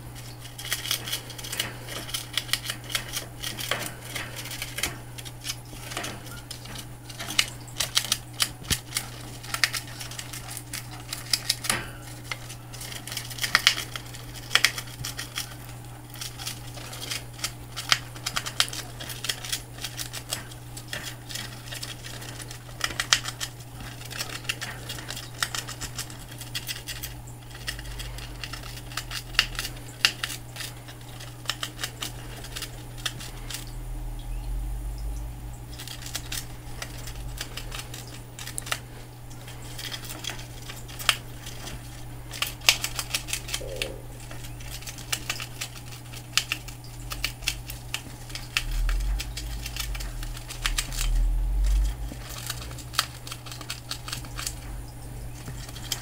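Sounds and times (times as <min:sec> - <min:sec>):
gerbil gnawing cardboard: 0:00.0 - 0:34.1, 0:35.5 - 0:56.0
steady low hum: 0:00.0 - 0:56.0.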